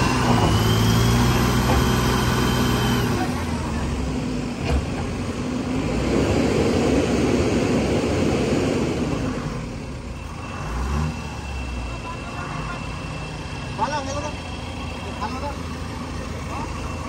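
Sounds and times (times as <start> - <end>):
heavy truck engine rumbling: 0.0 - 17.0.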